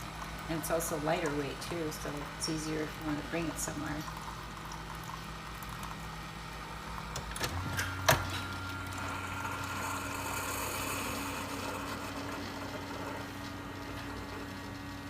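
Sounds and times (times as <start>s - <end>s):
coffee maker humming: 0.0s - 15.0s.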